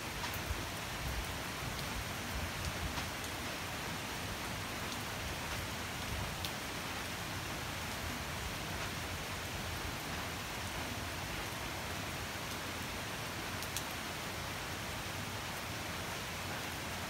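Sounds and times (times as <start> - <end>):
rain falling on leafy trees: 0.0 - 17.0.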